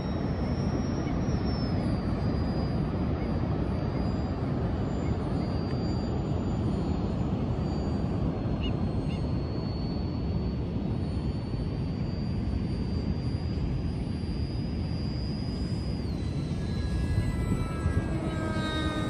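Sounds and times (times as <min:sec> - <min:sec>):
model jet turbine whining: 0:00.0 - 0:19.0
wind: 0:00.0 - 0:19.0.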